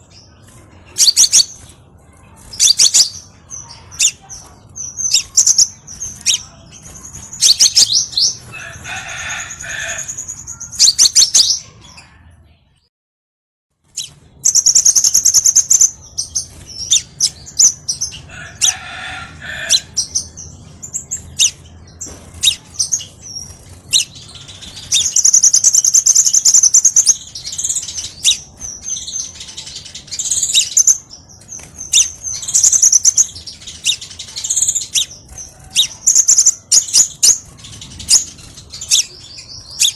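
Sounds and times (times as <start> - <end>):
bird trills and chips: 0.1 - 11.9, 13.9 - 39.9.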